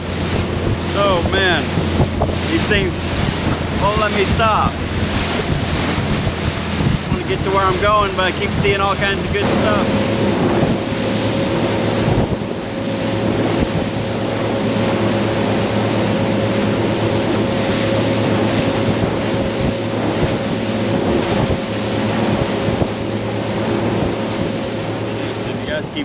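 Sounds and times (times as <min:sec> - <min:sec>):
motorboat engine drone: 0:00.0 - 0:26.0
water rushing from wake: 0:00.0 - 0:26.0
wind buffeting microphone: 0:00.0 - 0:26.0.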